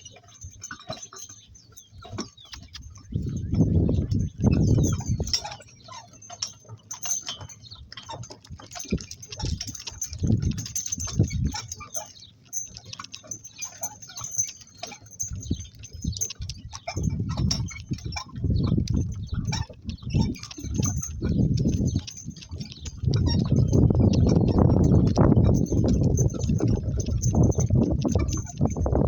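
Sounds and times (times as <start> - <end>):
hooves and cart clicking: 0.0 - 29.0.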